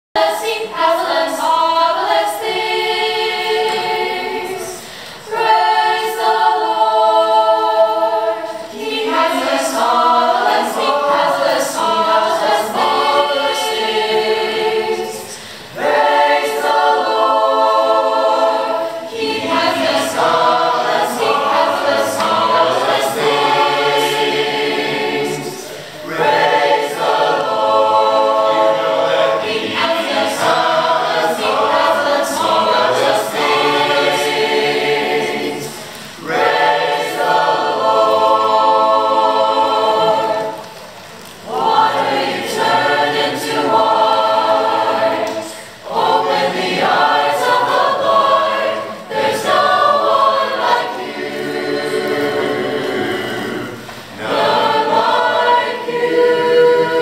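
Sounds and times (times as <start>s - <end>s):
youth choir singing a cappella: 0.0s - 57.0s.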